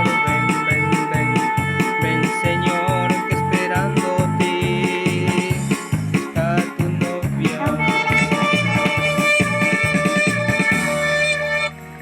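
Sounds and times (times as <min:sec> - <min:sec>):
high held tone: 0:00.0 - 0:11.8
upbeat praise music with keyboards: 0:00.0 - 0:12.0.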